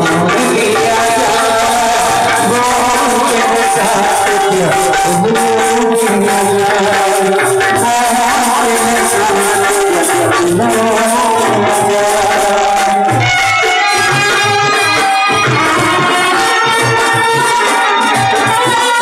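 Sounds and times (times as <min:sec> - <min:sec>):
loud music over horn loudspeakers: 0:00.0 - 0:19.0.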